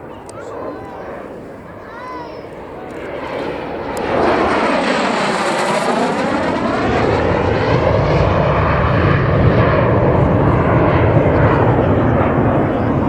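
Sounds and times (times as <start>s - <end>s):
deep jet rumble: 0.0s - 13.0s
jet roar in low flyby: 0.0s - 13.0s.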